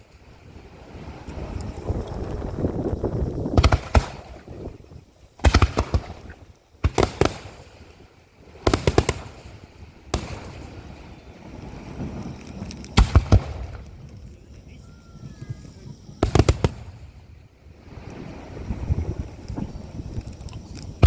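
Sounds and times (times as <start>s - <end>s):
firework shells bursting: 0.9s - 21.0s.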